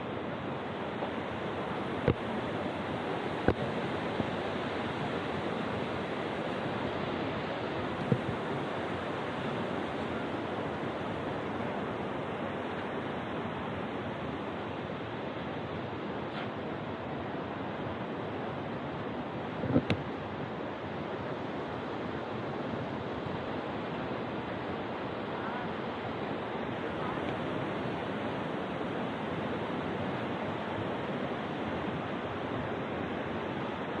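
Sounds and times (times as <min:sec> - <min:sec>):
waterfall and stream rushing: 0:00.0 - 0:34.0.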